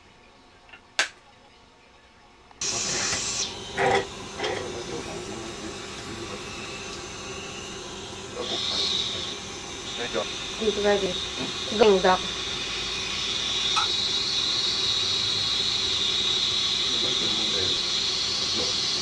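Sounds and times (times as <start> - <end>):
steady hiss of dental equipment: 2.6 - 19.0.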